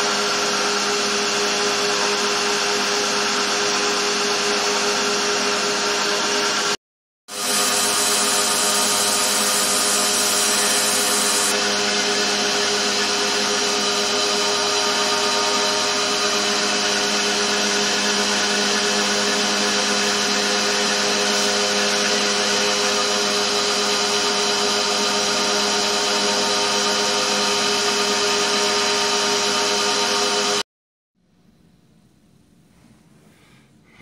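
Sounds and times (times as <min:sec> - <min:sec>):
belt grinder running: 0:00.0 - 0:30.6.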